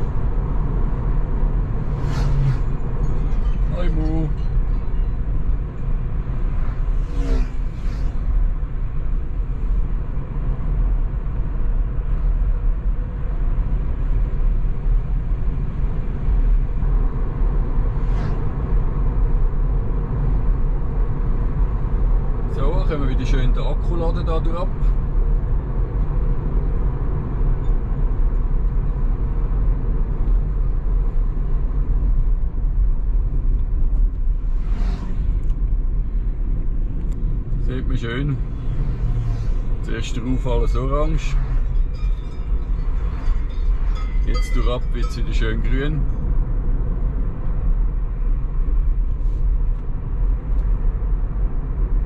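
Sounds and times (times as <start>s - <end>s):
road and wind rumble in car: 0.0s - 52.0s.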